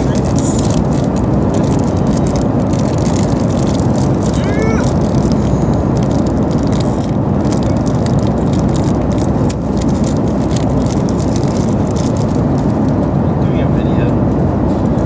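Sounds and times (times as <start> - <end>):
snack packet crinkling: 0.0 - 13.1
airliner cabin drone: 0.0 - 15.0.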